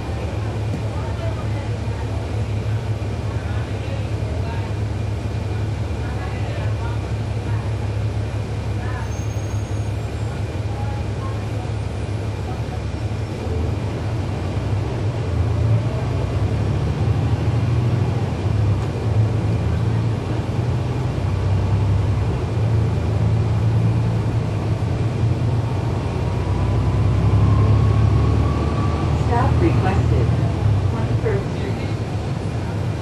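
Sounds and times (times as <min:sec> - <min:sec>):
bus diesel engine drone: 0:00.0 - 0:33.0.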